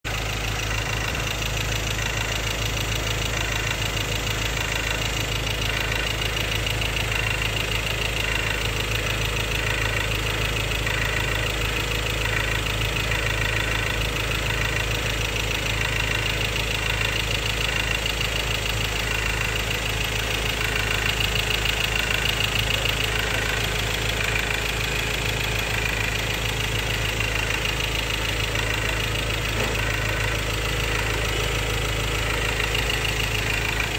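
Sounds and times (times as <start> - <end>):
diesel engine idling with rattle: 0.0 - 33.9.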